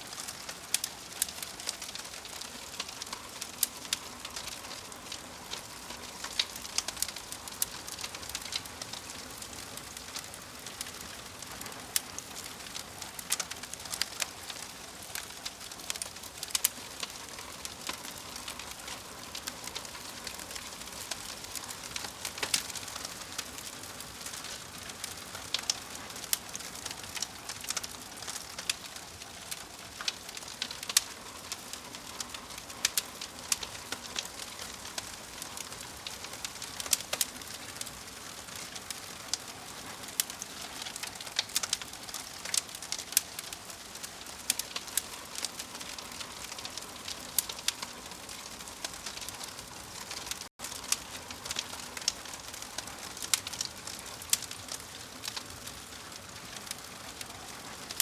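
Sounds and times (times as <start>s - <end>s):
logs crackling and popping: 0.0s - 58.0s
fire hissing: 0.1s - 58.0s.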